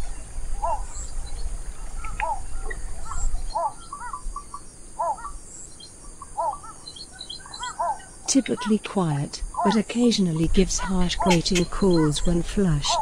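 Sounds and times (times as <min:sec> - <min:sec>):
bird calling: 0:00.0 - 0:13.0.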